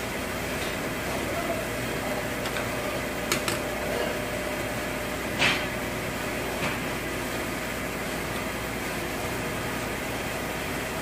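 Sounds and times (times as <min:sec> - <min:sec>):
steady shop hum: 0:00.0 - 0:11.0.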